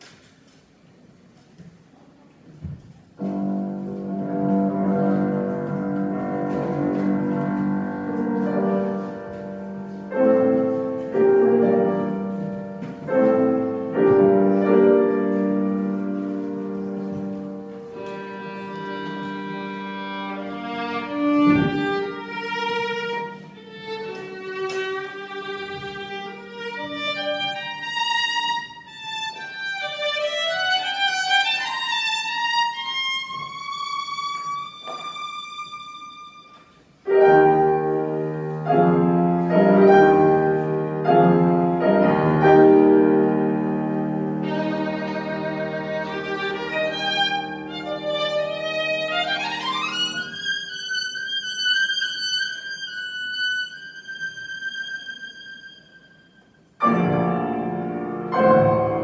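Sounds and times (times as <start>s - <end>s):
piano accompaniment: 3.1s - 59.0s
violin playing: 3.2s - 59.0s.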